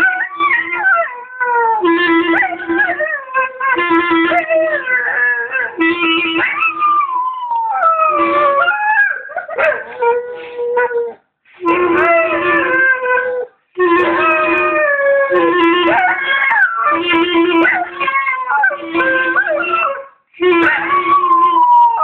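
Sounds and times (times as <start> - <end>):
dog howling: 0.0 - 22.0.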